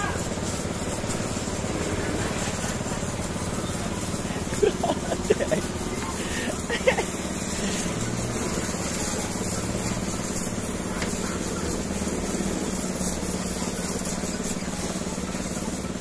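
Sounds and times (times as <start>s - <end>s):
pressure washer pump hum: 0.0s - 16.0s
water jet hissing: 0.0s - 16.0s.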